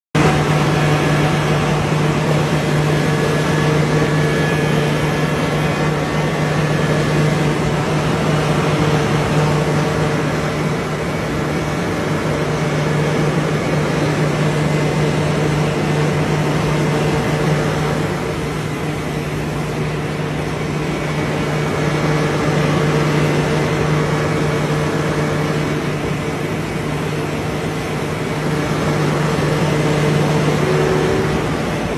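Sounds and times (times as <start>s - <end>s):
excavator engine humming: 0.2s - 31.9s.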